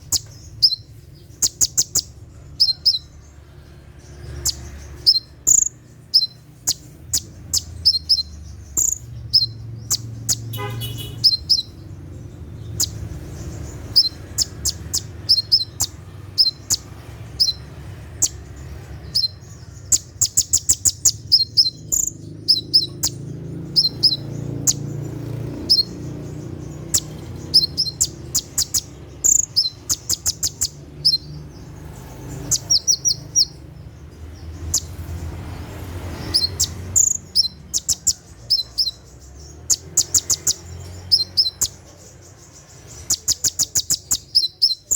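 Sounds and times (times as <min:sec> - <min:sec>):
bird sharp high chirps: 0:00.0 - 0:44.9.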